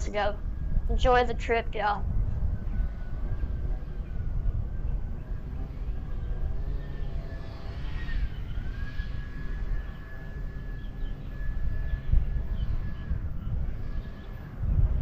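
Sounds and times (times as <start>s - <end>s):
locomotive high whine: 0.0s - 15.0s.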